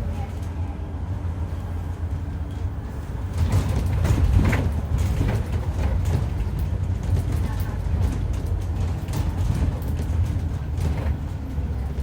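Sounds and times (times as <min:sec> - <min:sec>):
bus diesel engine rumbling: 0:00.0 - 0:12.0
bus body rattling: 0:01.4 - 0:12.0.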